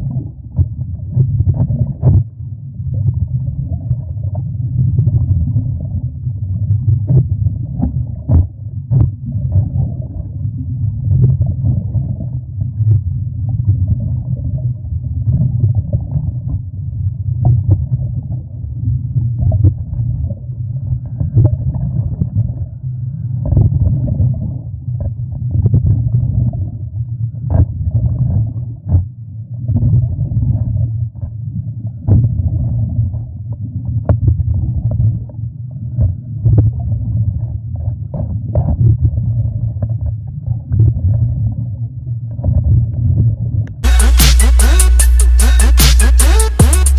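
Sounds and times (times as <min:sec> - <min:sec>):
underwater low rumble: 0:00.0 - 0:43.9.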